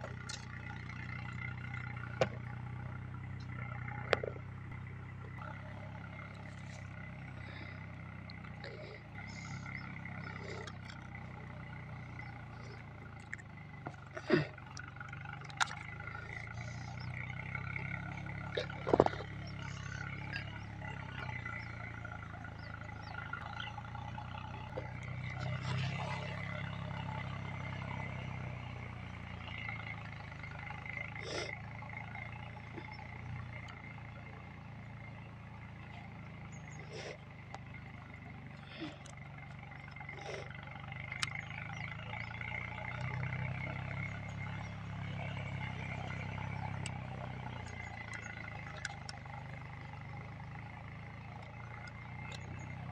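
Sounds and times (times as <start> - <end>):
low outdoor hum: 0.0 - 52.9.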